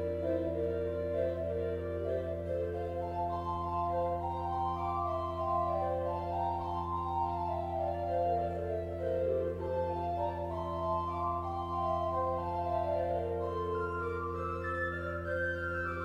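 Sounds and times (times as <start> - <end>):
pipe organ playing: 0.0 - 16.0.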